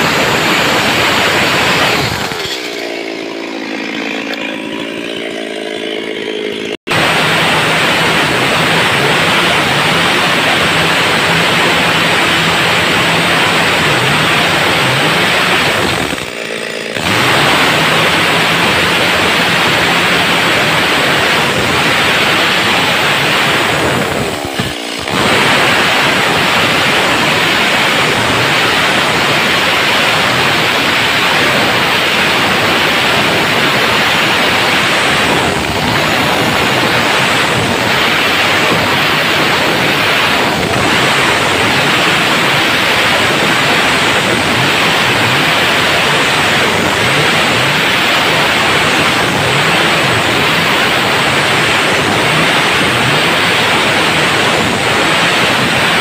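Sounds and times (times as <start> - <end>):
chainsaw cutting timber: 0.0 - 56.0.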